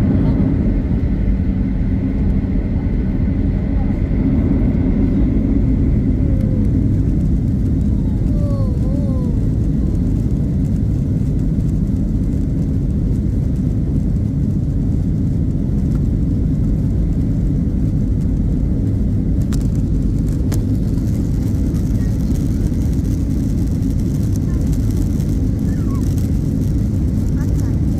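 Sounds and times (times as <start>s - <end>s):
jet engines rumbling: 0.0s - 27.9s.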